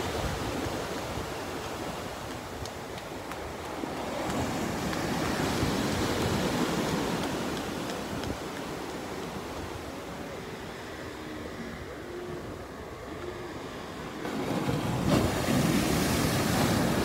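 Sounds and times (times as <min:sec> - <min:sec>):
small waves breaking on beach: 0:00.0 - 0:11.8, 0:13.6 - 0:17.0.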